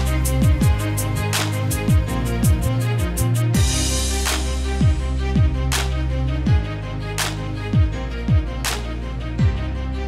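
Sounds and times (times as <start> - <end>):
background music with steady beat: 0.0 - 10.0
deep sliding bass notes: 0.0 - 10.0.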